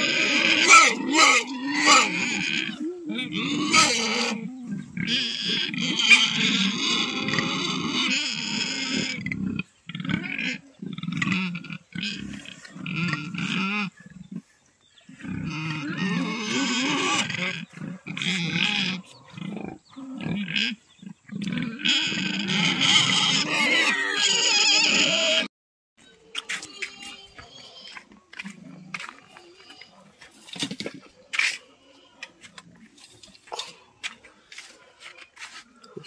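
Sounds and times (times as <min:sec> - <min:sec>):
pig grunting and squealing: 0:00.0 - 0:25.5, 0:26.2 - 0:36.0.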